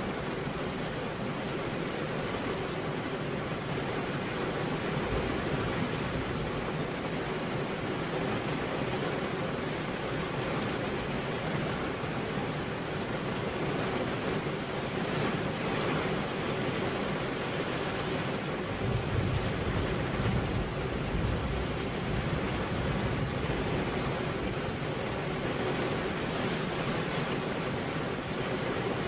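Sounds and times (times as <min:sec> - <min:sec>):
rain hissing on car window: 0:00.0 - 0:29.0.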